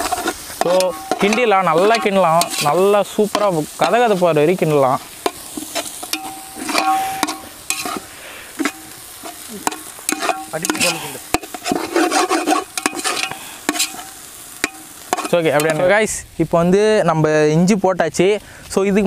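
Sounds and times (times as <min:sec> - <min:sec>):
ladle scraping a cooking pot: 0:00.0 - 0:15.9
steady sizzle: 0:00.0 - 0:19.0.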